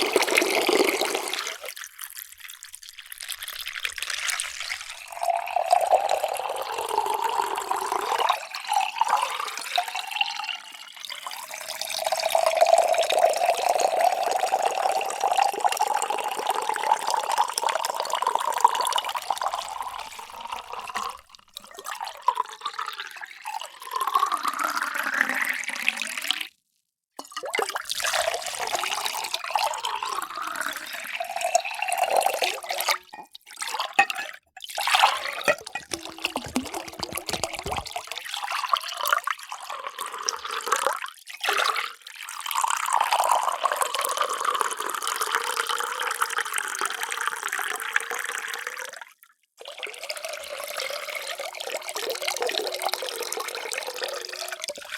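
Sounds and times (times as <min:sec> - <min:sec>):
water pouring into containers: 0:00.0 - 0:26.6, 0:27.2 - 0:54.9.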